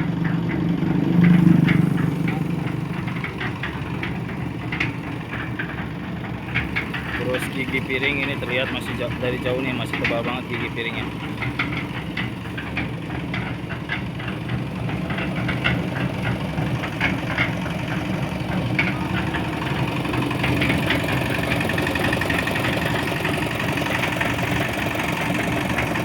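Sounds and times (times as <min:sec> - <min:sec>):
diesel engine running: 0:00.0 - 0:26.0
rapid metallic ticking: 0:00.1 - 0:26.0.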